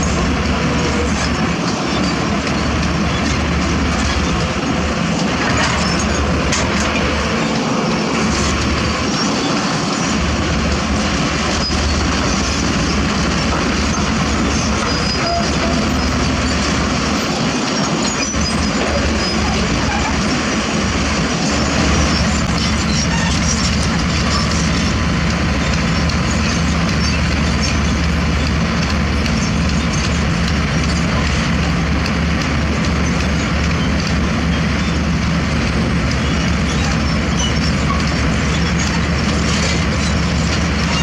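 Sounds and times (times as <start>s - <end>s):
heavy diesel machinery droning: 0.0s - 41.0s.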